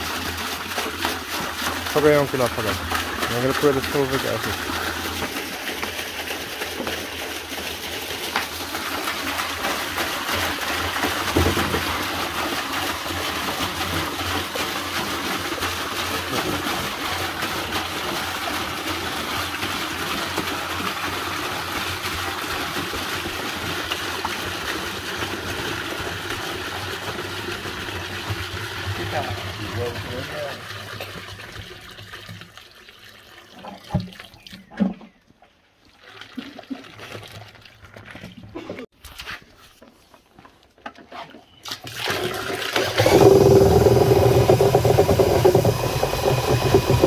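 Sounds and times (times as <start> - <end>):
liquid pouring and splashing: 0.0 - 34.7, 35.8 - 38.6, 41.6 - 47.0.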